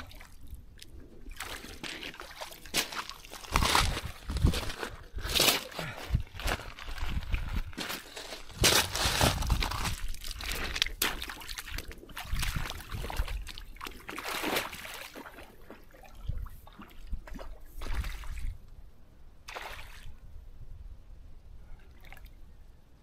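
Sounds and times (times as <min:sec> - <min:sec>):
boots wading through water: 0:00.0 - 0:18.5.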